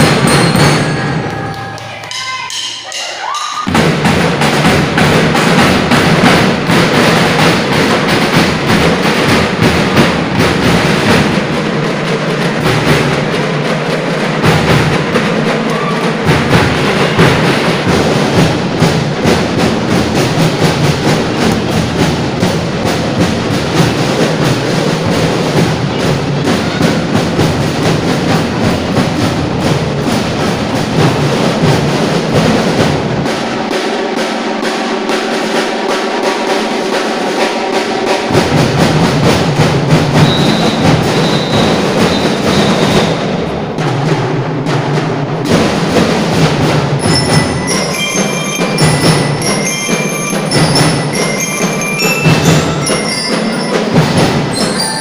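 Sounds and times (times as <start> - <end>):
snare and bass drums: 0.0 - 1.7, 3.6 - 55.0
drum and lyre band playing: 0.0 - 55.0.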